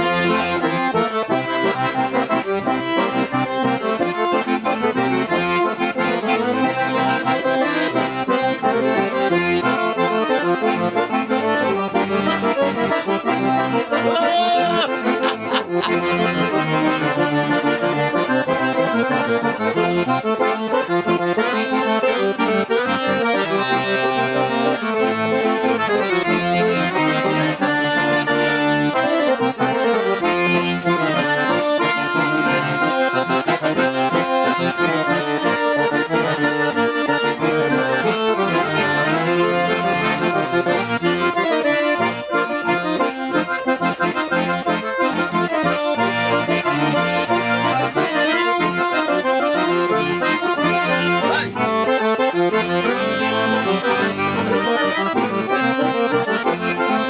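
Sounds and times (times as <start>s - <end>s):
accordion playing lively dance tune: 0.0s - 57.0s.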